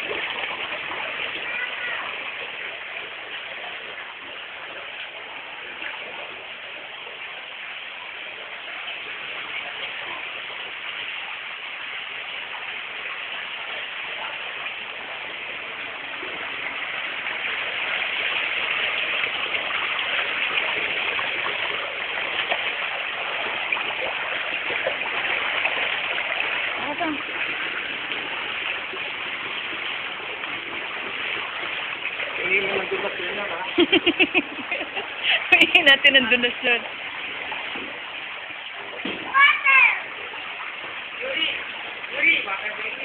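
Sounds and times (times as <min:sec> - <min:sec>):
running water rushing: 0:00.0 - 0:43.0.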